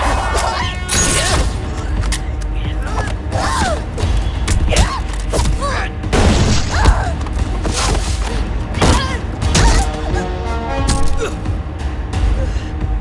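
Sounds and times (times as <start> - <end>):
low music: 0.0 - 13.0.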